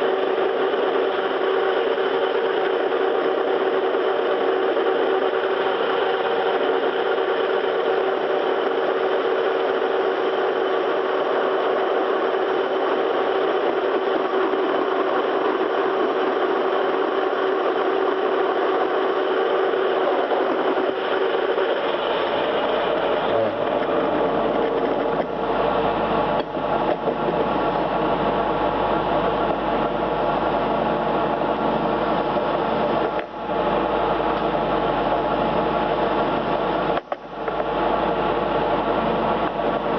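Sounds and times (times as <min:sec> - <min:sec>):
lathe whirring: 0:00.0 - 0:39.9
low hum: 0:00.0 - 0:39.9.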